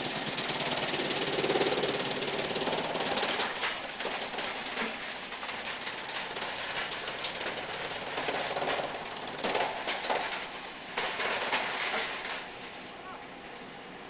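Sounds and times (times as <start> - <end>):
crackle of wood being chipped: 0.0 - 12.8
wood chipper running: 0.0 - 14.0.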